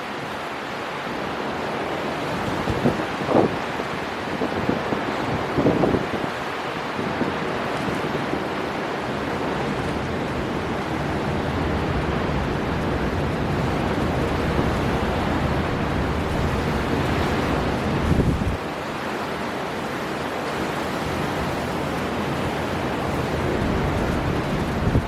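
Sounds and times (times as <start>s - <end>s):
heavy surf: 0.0s - 25.0s
storm wind: 0.0s - 25.0s.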